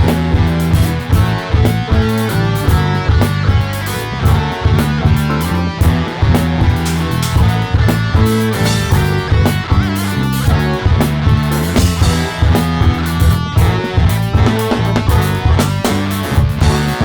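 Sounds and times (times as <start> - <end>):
bass guitar riffing: 0.0 - 17.0
distorted electric guitar: 0.0 - 17.0
drum kit beat: 0.0 - 17.0.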